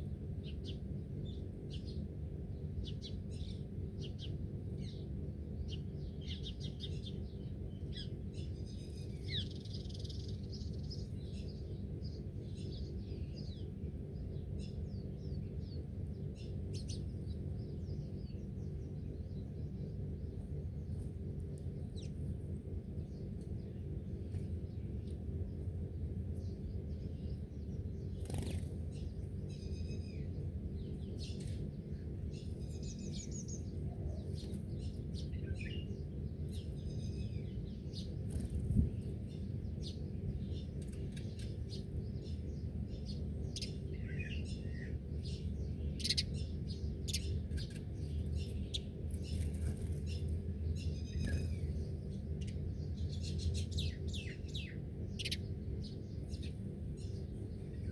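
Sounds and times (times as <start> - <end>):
birds chirping and trilling: 0.0 - 57.9
steady low hum: 0.0 - 57.9.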